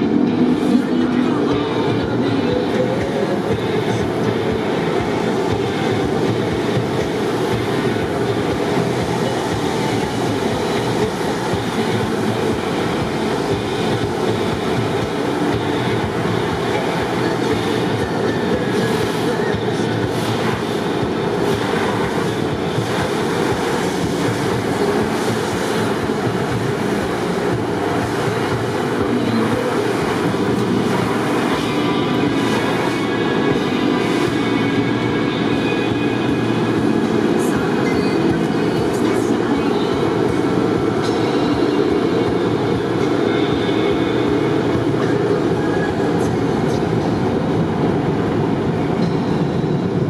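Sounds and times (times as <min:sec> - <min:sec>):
water spraying over car: 0:00.0 - 0:49.0
car wash equipment rumble: 0:00.0 - 0:50.0.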